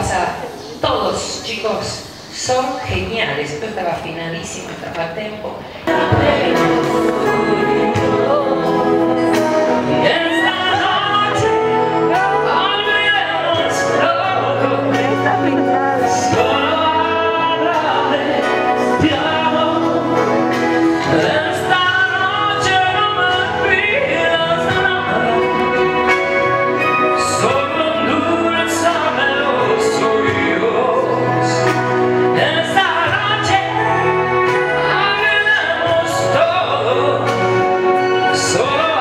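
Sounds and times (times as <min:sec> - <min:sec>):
instrumental accompaniment: 0:05.8 - 0:39.0.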